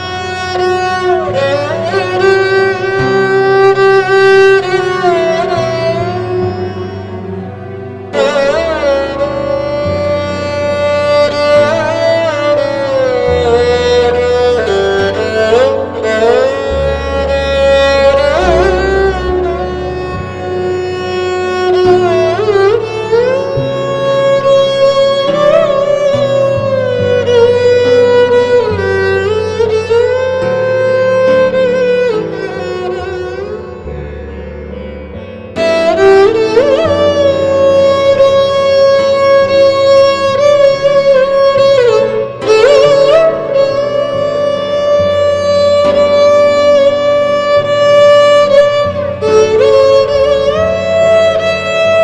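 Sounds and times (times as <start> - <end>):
sustained bass notes: 0.0 - 52.0.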